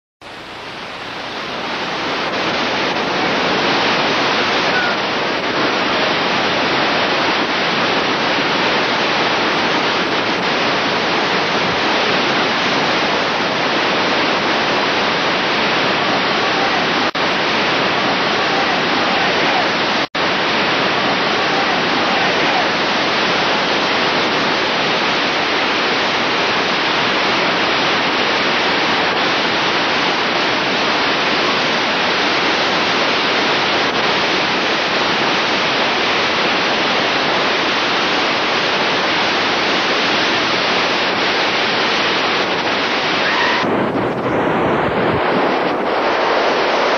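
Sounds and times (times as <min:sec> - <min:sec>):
white-water rapids rushing: 0:00.2 - 0:46.9.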